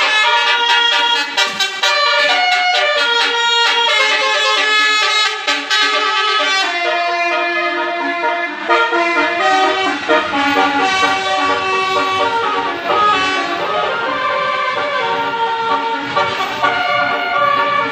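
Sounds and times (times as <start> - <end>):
multi-tone bus horns playing tunes: 0.0 - 17.9.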